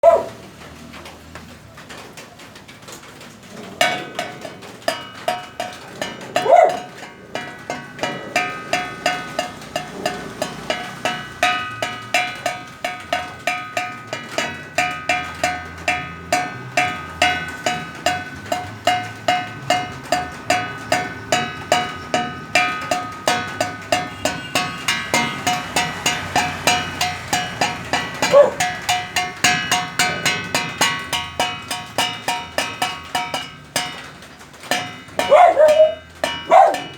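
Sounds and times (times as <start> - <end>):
metal object struck ringing: 3.8 - 36.9.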